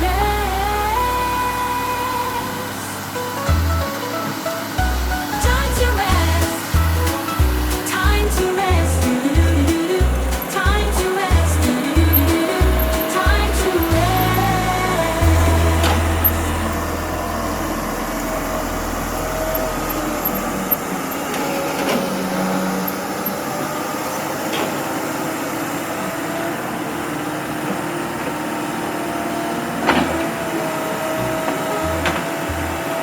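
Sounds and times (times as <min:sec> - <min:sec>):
heavy machinery engine: 0:00.0 - 0:33.0
machine whine: 0:00.0 - 0:33.0.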